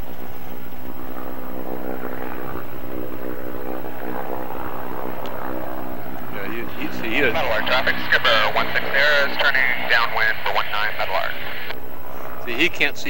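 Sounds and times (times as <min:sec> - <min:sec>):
blimp propeller engines droning: 0:00.0 - 0:13.0.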